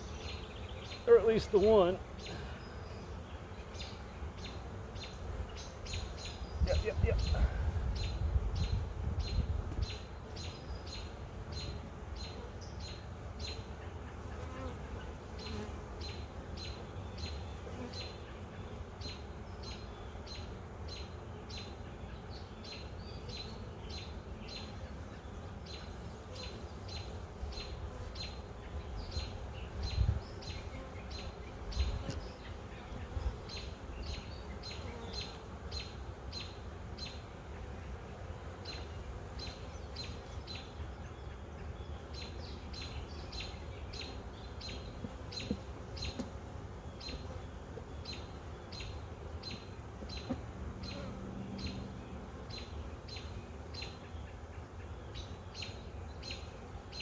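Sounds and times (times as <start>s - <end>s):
honey bees buzzing: 0.0s - 57.0s.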